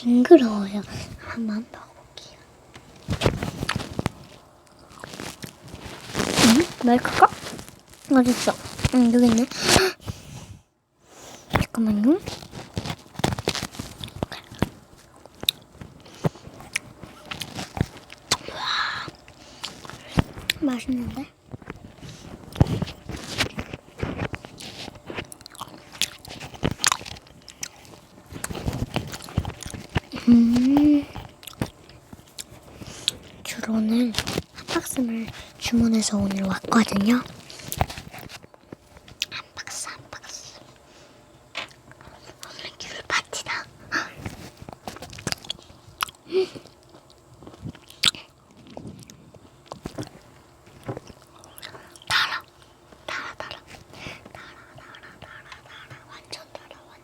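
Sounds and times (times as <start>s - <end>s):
crisp crunches: 2.8s - 10.2s, 11.3s - 40.8s, 41.6s - 56.9s
biting and chewing: 2.9s - 10.0s, 12.2s - 20.6s, 21.4s - 39.5s, 41.6s - 56.6s.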